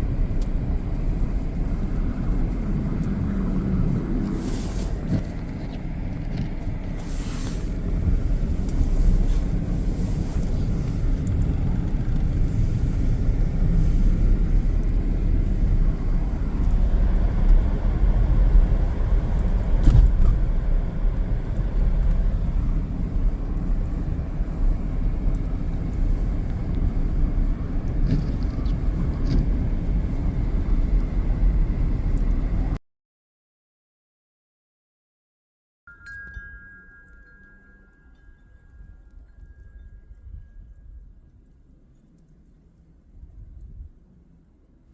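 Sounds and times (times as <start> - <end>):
car engine and tyre rumble: 0.0 - 32.8, 37.2 - 44.9.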